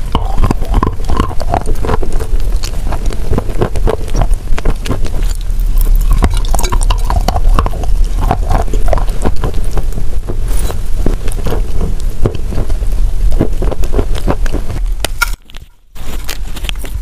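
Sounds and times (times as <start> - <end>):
crunching and chewing: 0.0 - 17.0
steady low rumble: 0.0 - 17.0.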